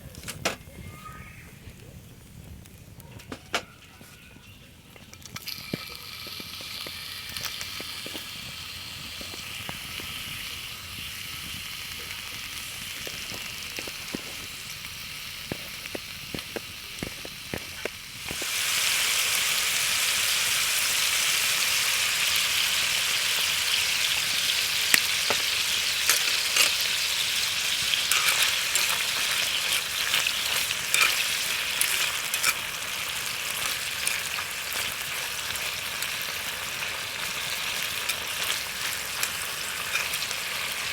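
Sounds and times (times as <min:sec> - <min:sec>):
food sizzling in a skillet: 0:03.9 - 0:40.9.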